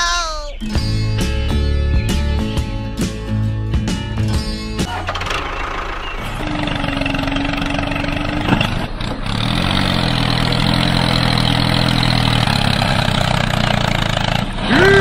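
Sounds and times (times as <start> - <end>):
engine running: 0.8 - 15.0.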